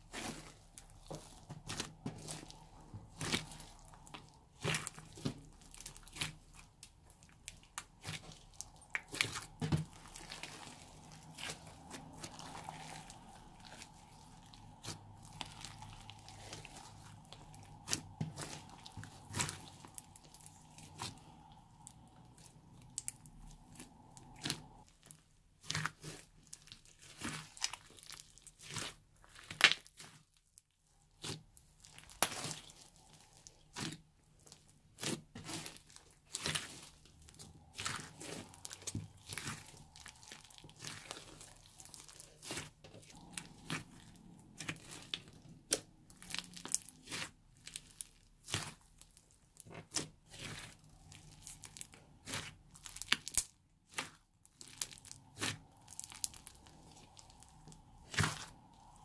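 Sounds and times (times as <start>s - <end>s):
slime crackling and popping: 0.0s - 59.0s.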